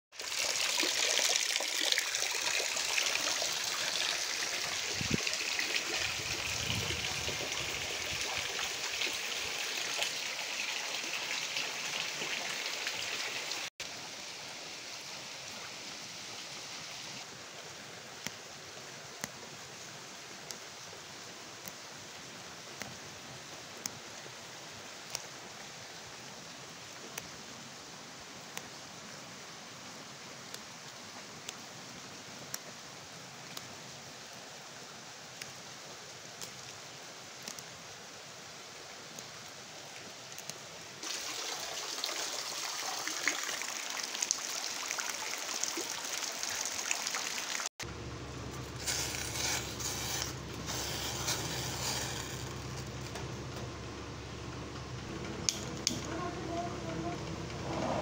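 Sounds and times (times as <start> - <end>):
quiet steady water sound: 0.1 - 58.0.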